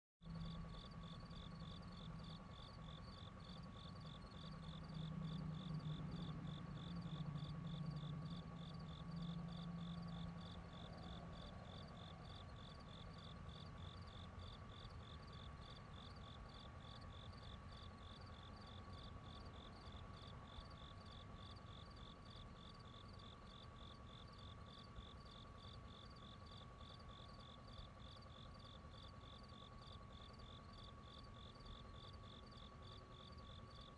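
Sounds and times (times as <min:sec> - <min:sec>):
insects chirping: 0:00.3 - 0:33.9.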